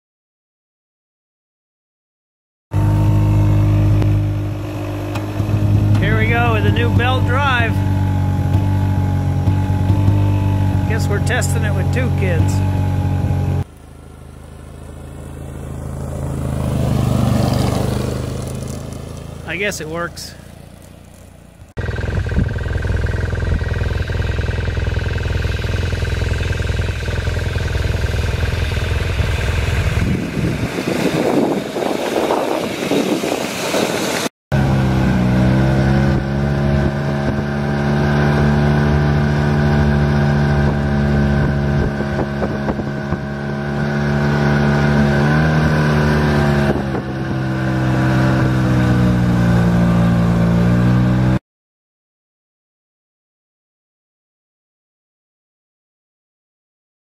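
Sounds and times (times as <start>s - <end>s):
snowmobile engine running: 2.7s - 51.4s.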